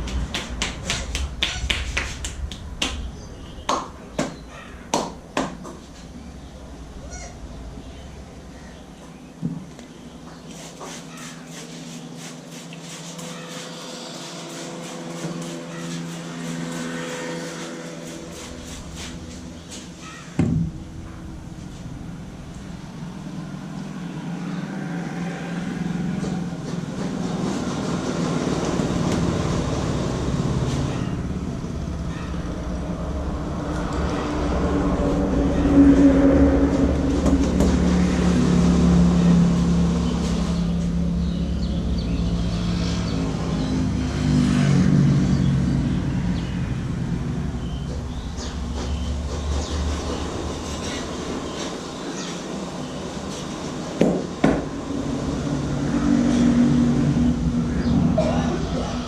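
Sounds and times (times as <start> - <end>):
motor traffic rumble: 0.0 - 59.0.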